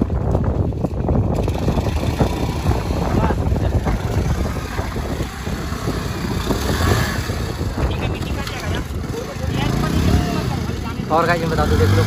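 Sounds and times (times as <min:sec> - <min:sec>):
motorcycle engine revving: 0:00.7 - 0:12.0.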